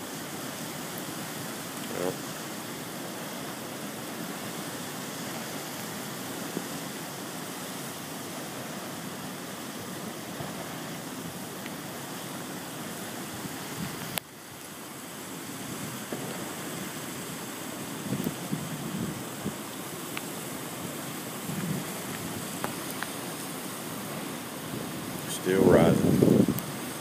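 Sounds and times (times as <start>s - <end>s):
flood water rushing: 0.0s - 27.0s.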